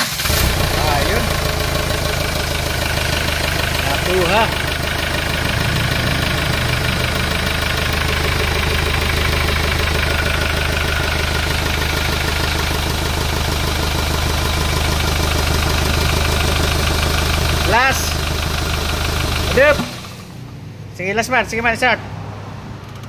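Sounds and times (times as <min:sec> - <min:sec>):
diesel engine idling: 0:00.0 - 0:21.8.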